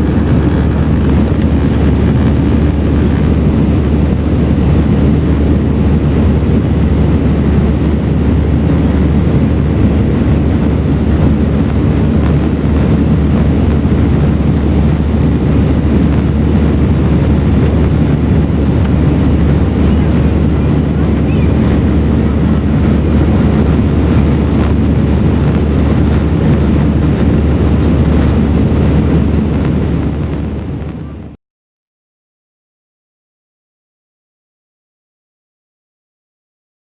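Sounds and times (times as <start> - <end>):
airliner cabin engine noise: 0.0 - 31.4.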